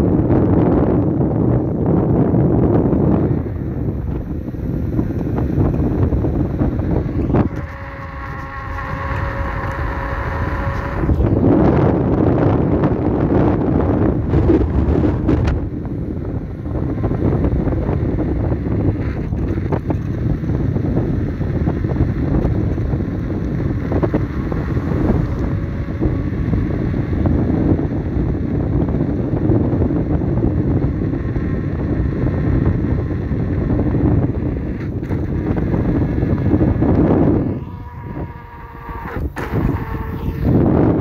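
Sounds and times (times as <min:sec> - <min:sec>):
wind rushing on microphone: 0:00.0 - 0:41.0.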